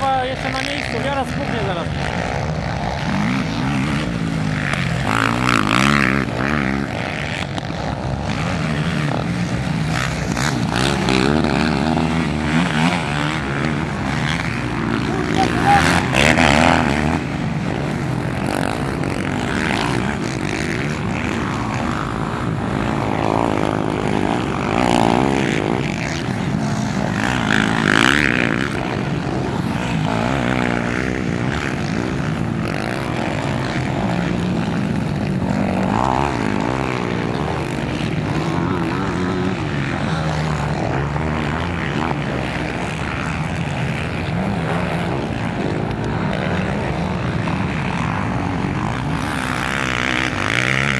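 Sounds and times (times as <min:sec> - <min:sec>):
quad engines revving: 0:00.0 - 0:50.9
quads passing close: 0:00.0 - 0:50.9.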